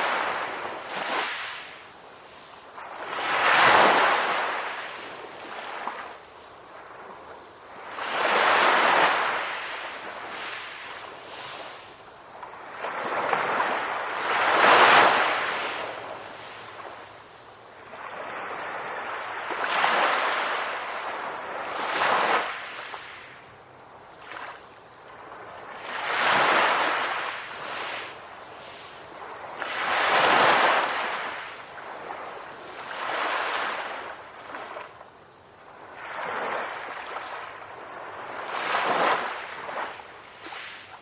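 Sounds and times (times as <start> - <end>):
ocean waves breaking on shore: 0.0 - 41.0.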